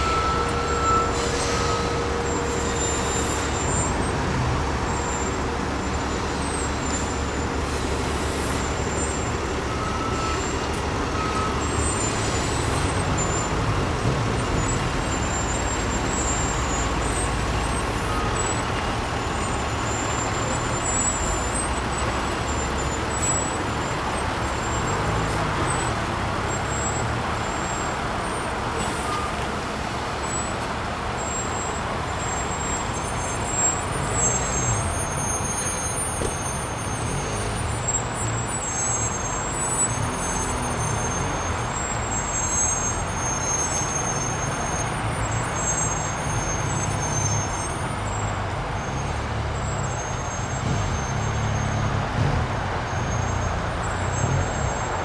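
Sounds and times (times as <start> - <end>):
diesel truck engines running: 0.0 - 55.0.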